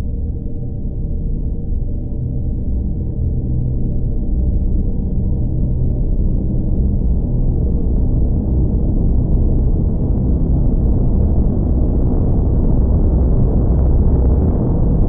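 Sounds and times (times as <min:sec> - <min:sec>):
deep rumbling drone: 0:00.0 - 0:15.0.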